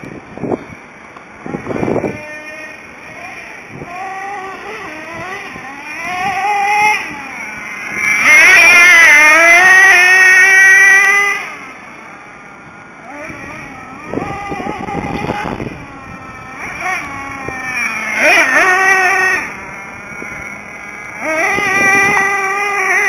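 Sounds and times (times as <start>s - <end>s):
small engine revving high: 0.0s - 23.0s.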